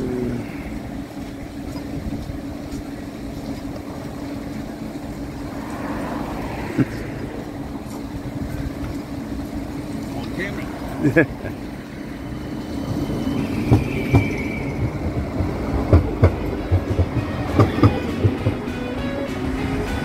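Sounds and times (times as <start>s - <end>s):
tram humming: 0.0s - 20.0s.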